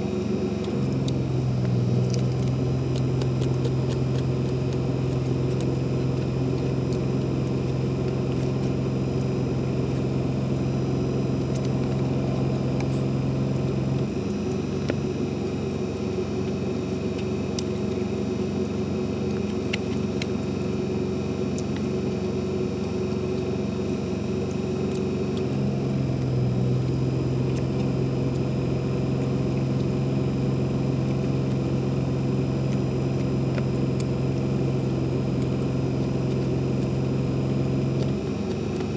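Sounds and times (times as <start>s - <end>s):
low engine-like hum: 0.0s - 38.9s.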